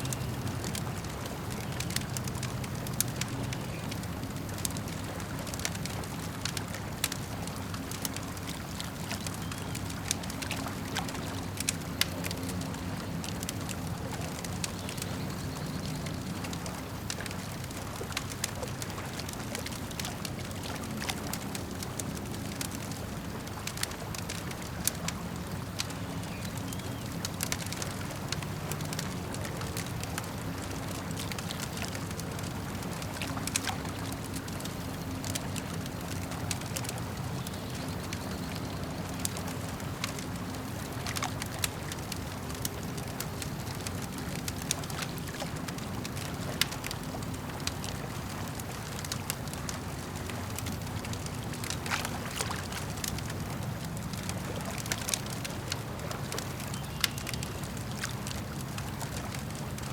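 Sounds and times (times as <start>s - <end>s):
campfire crackling and popping: 0.0s - 59.9s
lake water lapping: 0.0s - 59.9s.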